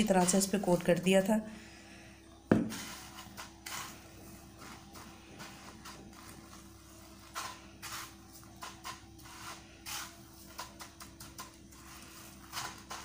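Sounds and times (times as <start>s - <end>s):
breadcrumbs rustling: 0.0s - 1.3s, 2.6s - 13.0s.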